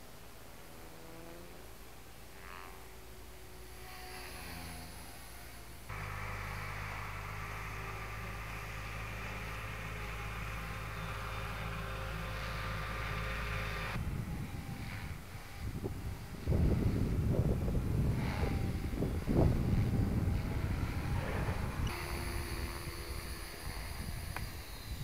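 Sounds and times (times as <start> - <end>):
rc helicopter whine: 0.0 - 25.0.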